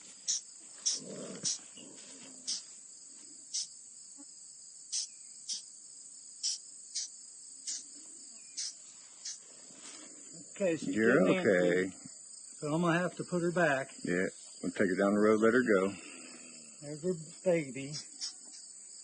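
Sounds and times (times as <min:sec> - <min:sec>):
insects chirping: 0:00.0 - 0:19.0
insects trilling: 0:00.0 - 0:19.0.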